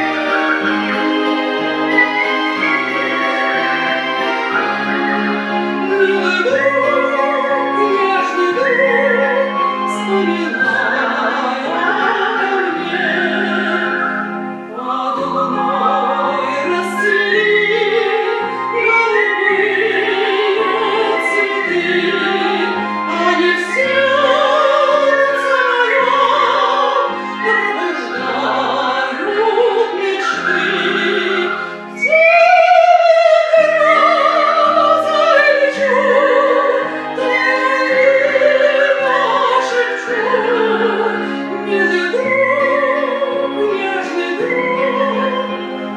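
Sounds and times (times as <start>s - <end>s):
instrumental accompaniment: 0.0s - 45.9s
operatic singing with vibrato: 0.0s - 45.9s.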